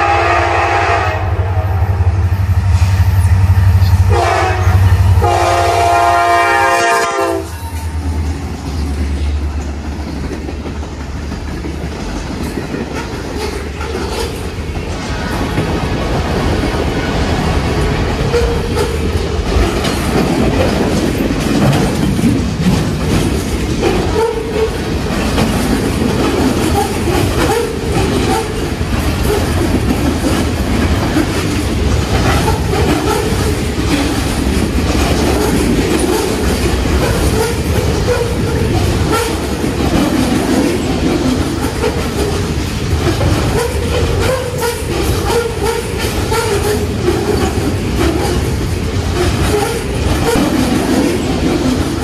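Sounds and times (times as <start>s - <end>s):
freight train rumbling past: 0.0s - 52.0s
wheels clattering over rails: 8.0s - 52.0s.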